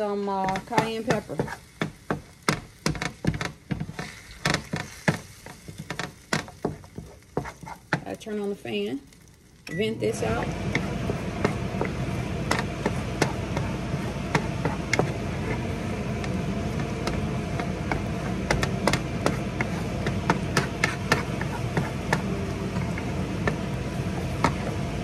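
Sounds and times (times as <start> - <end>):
kitchen exhaust fan running: 0.0 - 25.0
wooden spatula tapping metal pan: 0.4 - 8.2, 10.4 - 25.0.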